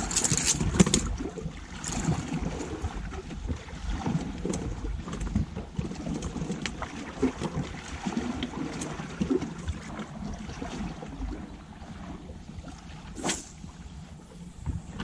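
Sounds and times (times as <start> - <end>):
sea water washing against shore: 0.0 - 15.0.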